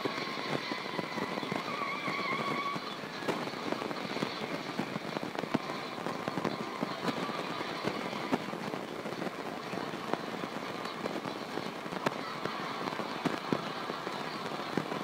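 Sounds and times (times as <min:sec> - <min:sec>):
dense steady crackling: 0:00.0 - 0:15.0.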